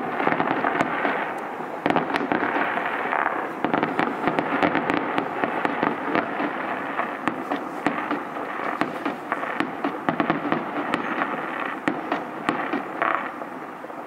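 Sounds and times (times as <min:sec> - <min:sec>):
continuous rushing noise: 0:00.0 - 0:14.0
fireworks popping and banging: 0:00.0 - 0:14.0.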